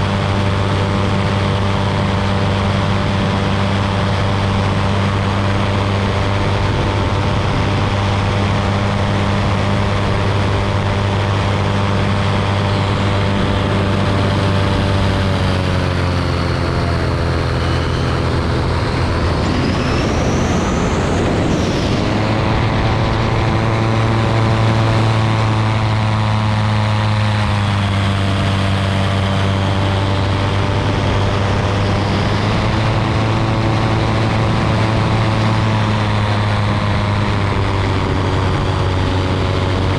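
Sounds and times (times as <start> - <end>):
propeller engine droning: 0.0 - 39.9
wind noise: 0.0 - 39.9.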